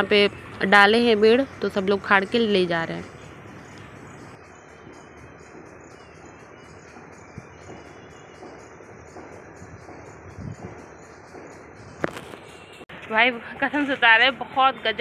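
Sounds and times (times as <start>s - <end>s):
insects chirping: 0.0s - 12.8s
steady outdoor hiss: 0.0s - 15.0s.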